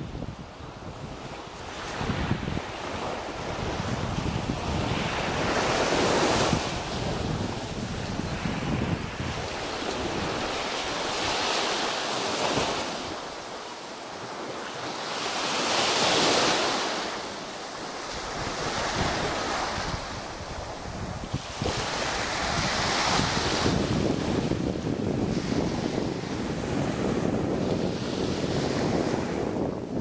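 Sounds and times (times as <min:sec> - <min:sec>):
wind buffeting microphone: 0:00.0 - 0:13.3, 0:17.8 - 0:30.0
waves washing up a beach: 0:00.0 - 0:30.0.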